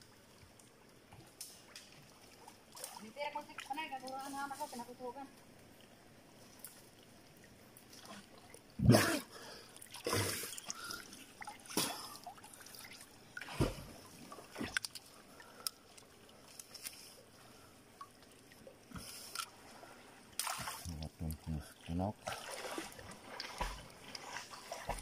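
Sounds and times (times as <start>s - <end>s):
water splashing around wader: 1.4s - 4.9s, 5.7s - 25.0s.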